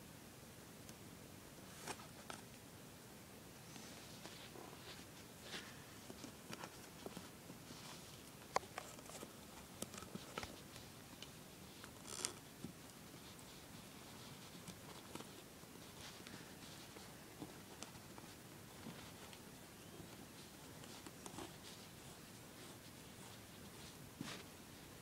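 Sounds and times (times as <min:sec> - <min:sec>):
faint rustling: 0:03.6 - 0:25.0.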